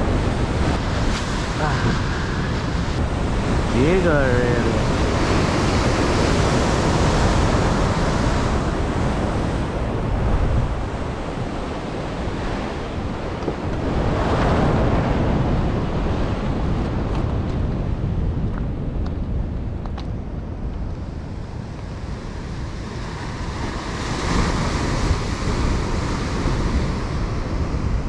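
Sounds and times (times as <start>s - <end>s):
ocean surf washing ashore: 0.0s - 28.0s
wind buffeting microphone: 0.0s - 28.0s.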